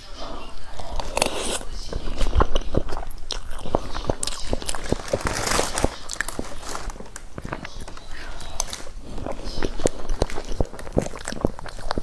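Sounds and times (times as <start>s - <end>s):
wet chewing sounds: 0.7s - 12.0s.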